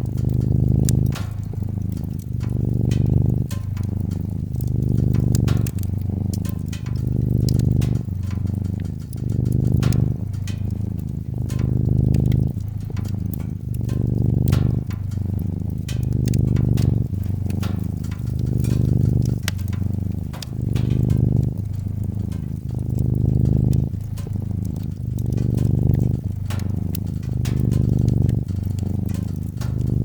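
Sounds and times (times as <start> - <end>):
cat purring: 0.0 - 30.0
wood fire crackling: 0.0 - 30.0.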